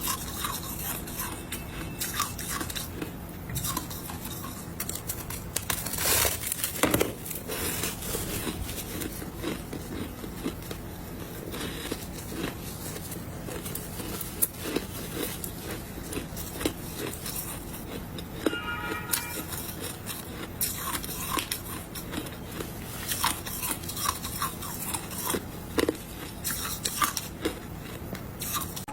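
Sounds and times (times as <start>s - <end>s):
person chewing ice: 0.0s - 28.9s.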